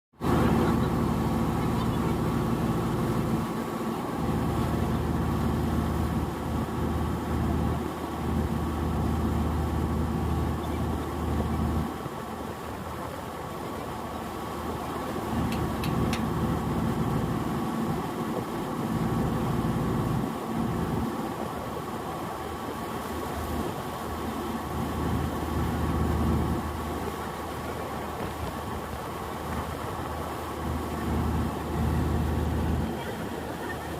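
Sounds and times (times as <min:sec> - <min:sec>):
engine humming: 0:00.2 - 0:12.2, 0:13.7 - 0:33.9.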